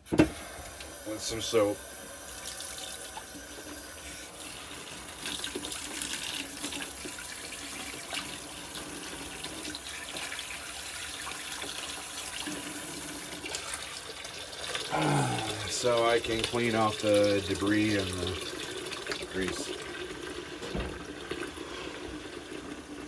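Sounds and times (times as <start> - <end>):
faucet water splashing into pan: 0.3 - 23.0.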